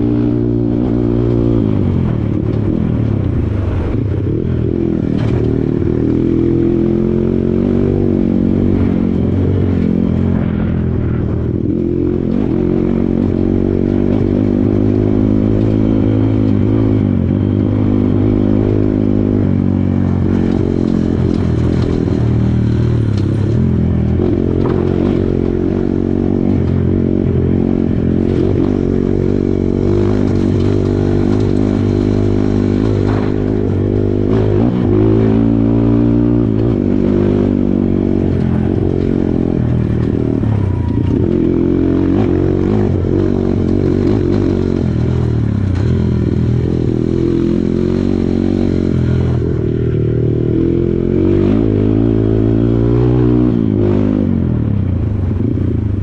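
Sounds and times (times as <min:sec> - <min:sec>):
dirt bike engine revving: 0:00.0 - 0:54.6.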